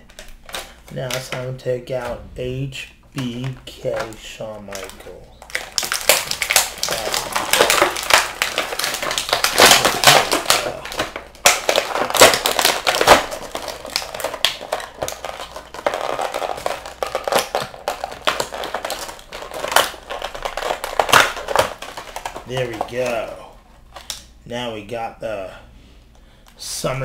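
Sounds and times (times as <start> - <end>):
plastic packaging crinkling: 0.0 - 2.2, 3.2 - 24.3.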